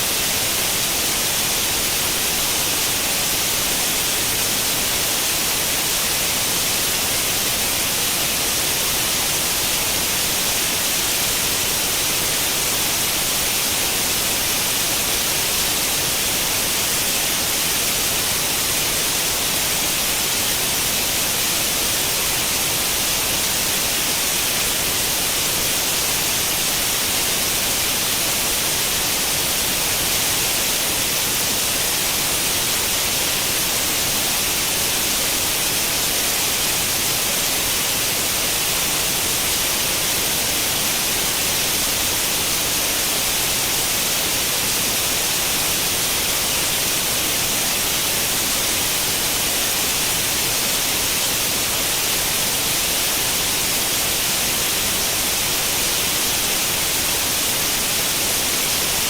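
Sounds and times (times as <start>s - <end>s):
television static hiss: 0.0s - 59.0s.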